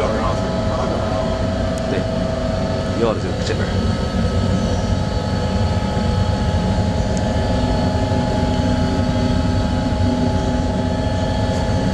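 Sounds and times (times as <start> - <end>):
extraction fan and powder gun drone: 0.0 - 11.9.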